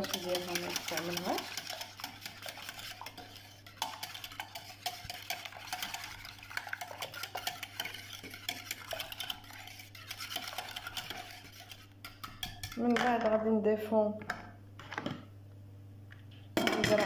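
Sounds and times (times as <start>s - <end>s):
eggs beaten in a bowl: 0.0s - 13.6s, 16.6s - 17.0s.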